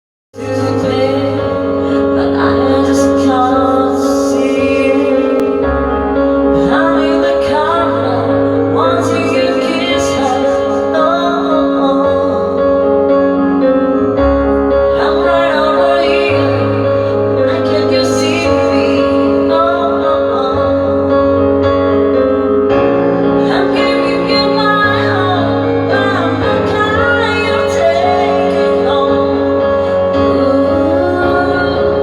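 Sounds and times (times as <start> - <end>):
woman singing: 0.4 - 5.6, 6.5 - 12.9, 14.8 - 21.5, 23.4 - 32.0
keyboard chords: 0.4 - 32.0
low bass line: 0.4 - 32.0.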